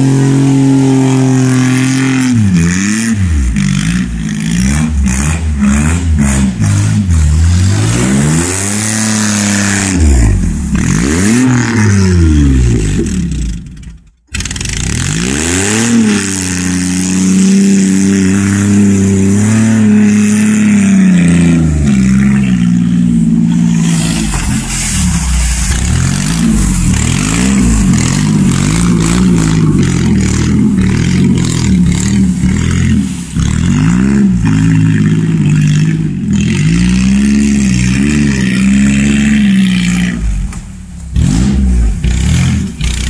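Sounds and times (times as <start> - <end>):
tires churning through mud: 0.0 - 43.0
truck engine revving: 0.0 - 43.0.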